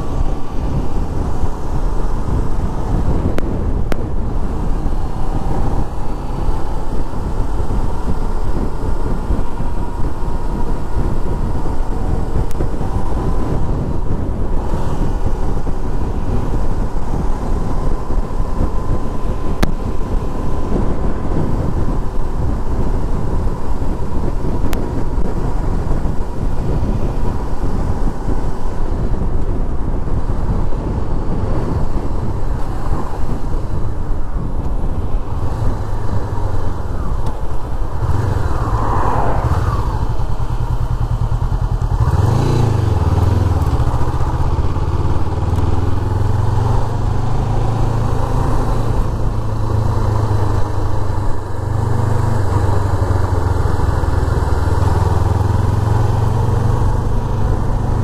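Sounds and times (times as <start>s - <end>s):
motorcycle engine: 0.0s - 58.0s
wind rushing over microphone: 0.0s - 58.0s.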